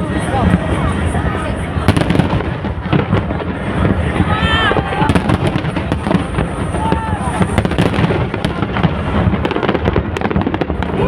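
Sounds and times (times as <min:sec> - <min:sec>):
fireworks crackling pops: 0:00.0 - 0:11.0
fireworks rumbling bursts: 0:00.0 - 0:11.0.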